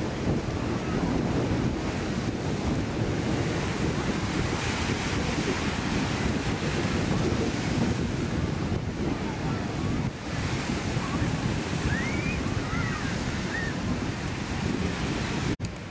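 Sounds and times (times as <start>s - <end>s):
ocean surf breaking over rocks: 0.0s - 15.9s
wind buffeting microphone: 0.0s - 15.9s.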